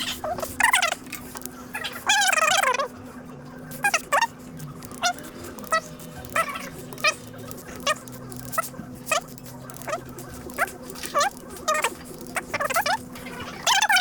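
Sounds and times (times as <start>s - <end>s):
animal giving high-pitched cries: 0.0s - 3.0s, 3.7s - 14.0s.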